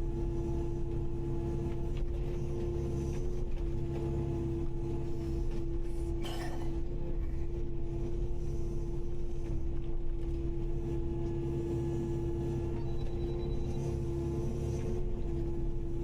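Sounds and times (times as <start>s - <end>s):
excavator diesel rumble: 0.0s - 16.0s.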